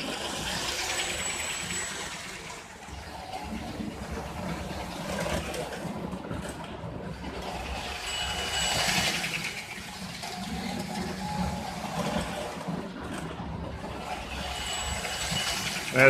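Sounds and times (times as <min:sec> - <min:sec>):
model train motor whirring: 0:00.0 - 0:06.0, 0:07.1 - 0:16.0.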